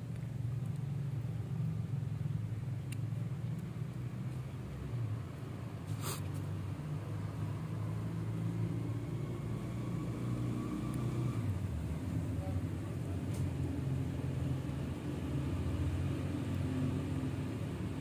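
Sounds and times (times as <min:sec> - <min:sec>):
low engine-like rumble: 0:00.0 - 0:09.9, 0:10.8 - 0:18.0.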